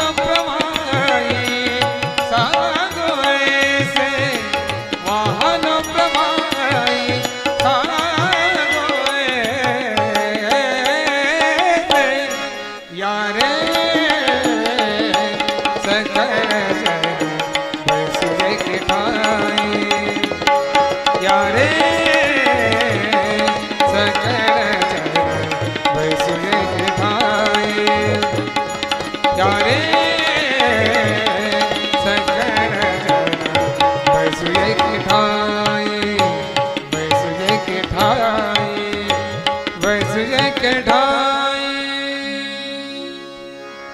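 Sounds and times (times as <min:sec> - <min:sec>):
tabla beat: 0:00.0 - 0:42.3
harmonium and violin melody: 0:00.0 - 0:43.9.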